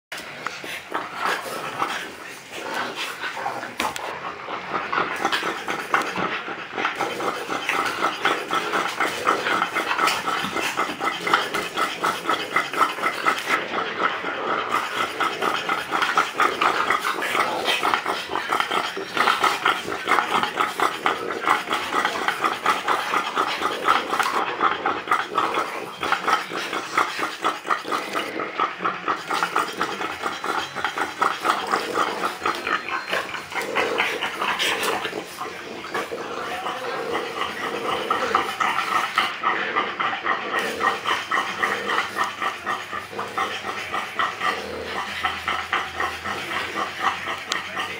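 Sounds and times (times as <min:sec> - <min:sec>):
dog panting hard: 0:00.2 - 0:47.9.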